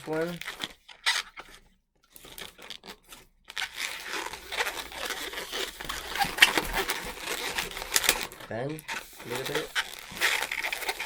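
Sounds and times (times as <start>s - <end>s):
rubber balloon squeaking: 0.0s - 11.0s.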